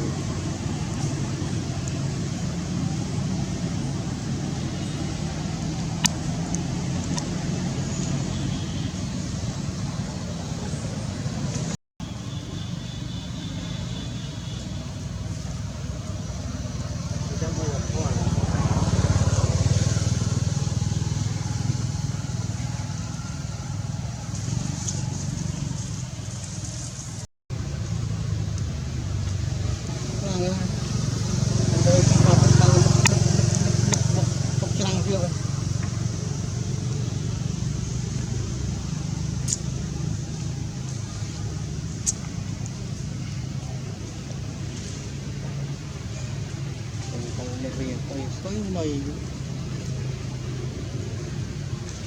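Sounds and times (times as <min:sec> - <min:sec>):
low engine rumble: 0:00.0 - 0:52.0.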